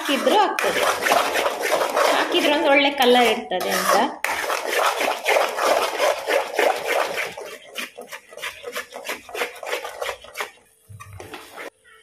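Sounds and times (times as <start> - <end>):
metal spoon scraping a metal pan: 0.0 - 11.7
squelching of thick food: 0.0 - 11.7.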